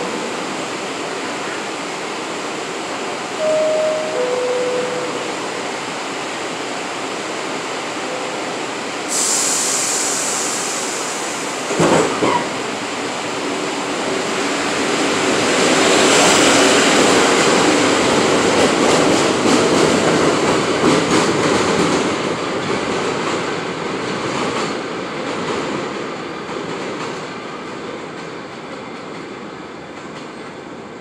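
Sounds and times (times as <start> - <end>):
subway train pulling out: 0.0 - 31.0.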